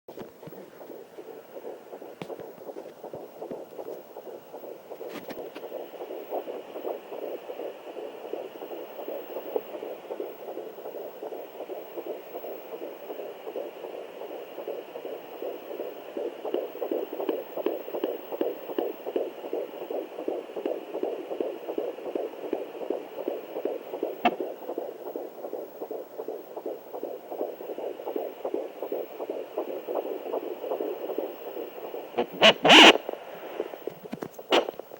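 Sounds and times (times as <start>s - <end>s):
fetal heartbeat whooshing pulses: 0.1s - 34.9s.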